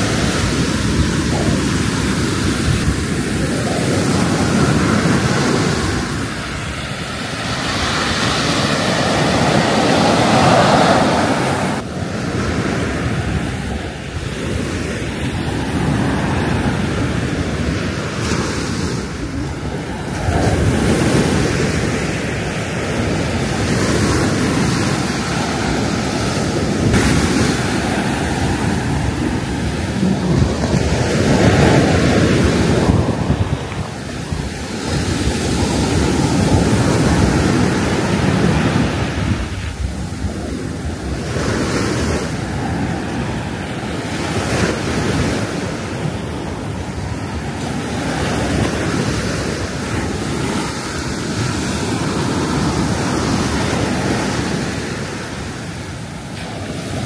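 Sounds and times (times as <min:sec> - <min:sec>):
surf breaking on a beach: 0:00.0 - 0:57.0
wind buffeting microphone: 0:00.0 - 0:57.0.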